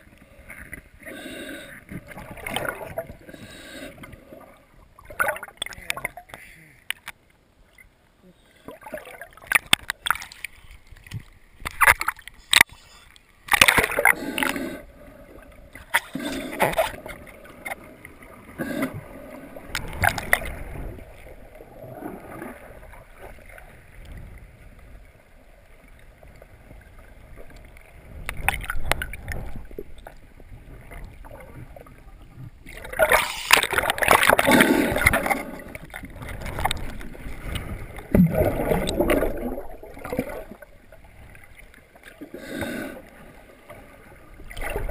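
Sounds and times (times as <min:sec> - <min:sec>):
water splashing and bubbling: 0:00.0 - 0:07.9, 0:08.5 - 0:44.9
water gurgling and sloshing: 0:00.0 - 0:44.9.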